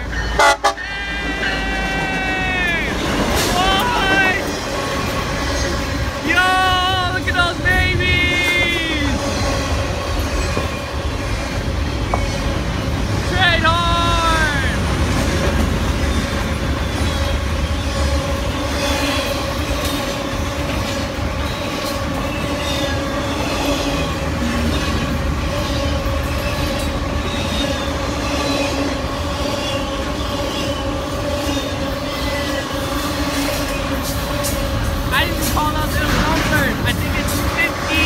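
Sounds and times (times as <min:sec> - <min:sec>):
train wheels clicking over rail joints: 0:01.9 - 0:13.6, 0:14.8 - 0:38.0.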